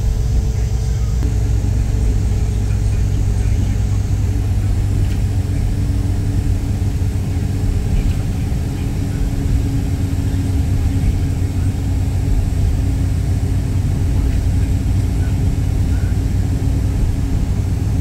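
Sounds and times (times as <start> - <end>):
faint steady hum: 0.0 - 18.0
vehicle rumble inside cabin: 0.0 - 18.0.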